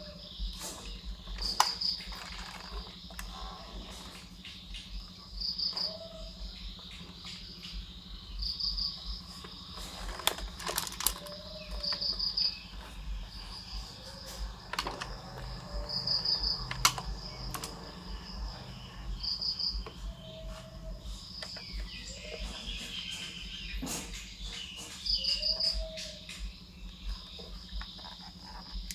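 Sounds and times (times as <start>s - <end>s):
cricket chirping: 0.0s - 28.9s.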